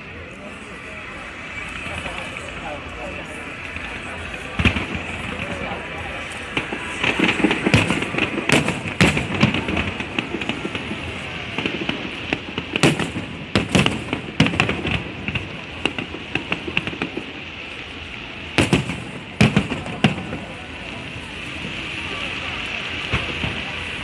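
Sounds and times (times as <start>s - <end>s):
fireworks bangs and crackles: 0.0s - 24.0s
murmur of crowd voices: 0.0s - 24.0s.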